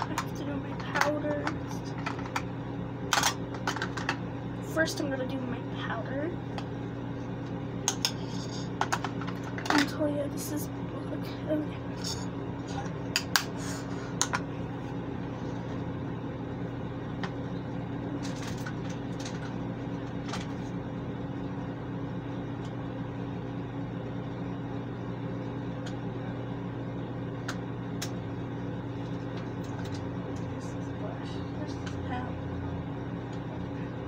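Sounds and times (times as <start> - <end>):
exhaust fan humming: 0.0 - 34.0.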